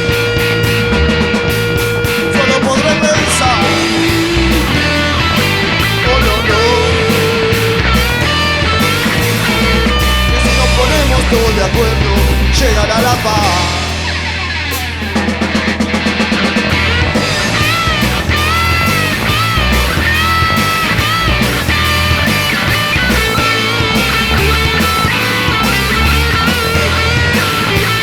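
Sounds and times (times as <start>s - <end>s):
lead guitar bending notes: 0.0s - 28.0s
rock band instrumental: 0.0s - 28.0s.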